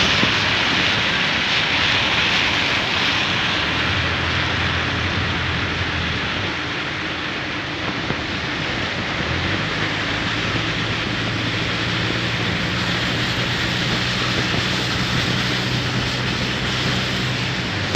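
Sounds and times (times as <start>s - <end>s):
steady rain falling: 0.0s - 17.9s.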